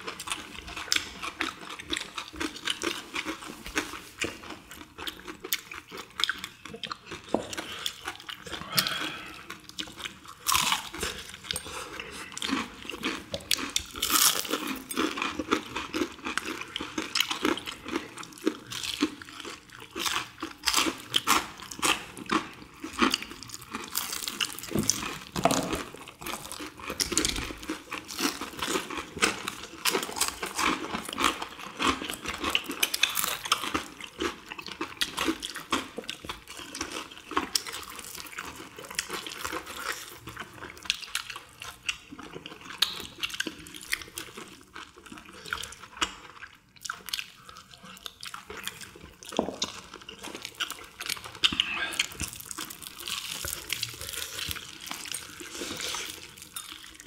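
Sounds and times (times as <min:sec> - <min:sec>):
people crunching fried chicken: 0:00.0 - 0:57.0.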